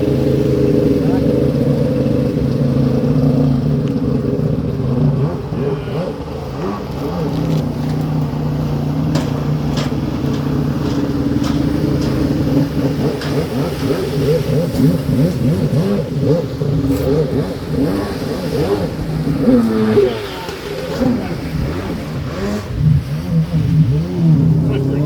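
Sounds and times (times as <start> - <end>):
electric motorbike drivetrain hum: 0.0 - 25.0
road noise: 0.0 - 25.0.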